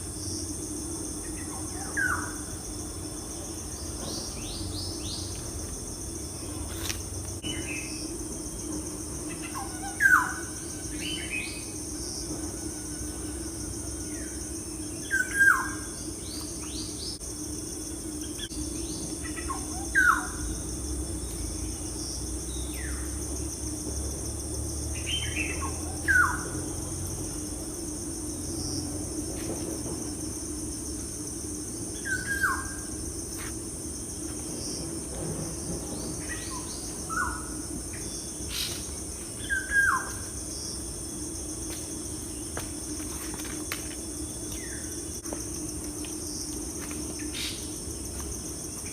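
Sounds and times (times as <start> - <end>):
high-pitched insect drone: 0.0 - 48.9.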